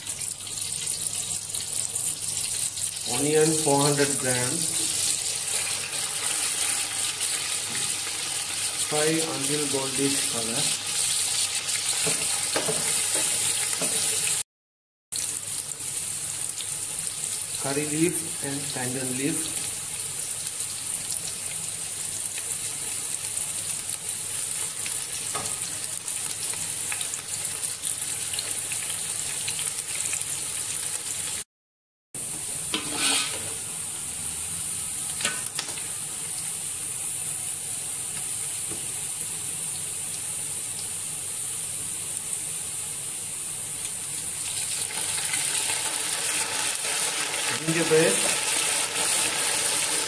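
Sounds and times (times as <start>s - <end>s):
onions sizzling in oil: 0.0s - 14.4s, 15.2s - 31.4s, 32.2s - 50.0s.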